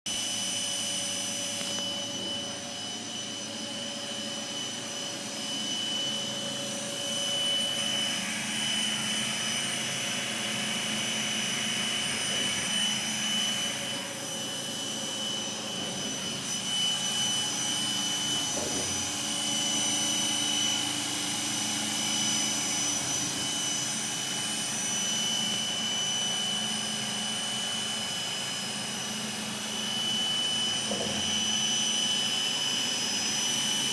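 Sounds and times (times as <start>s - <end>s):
router spindle whine: 0.1s - 33.9s.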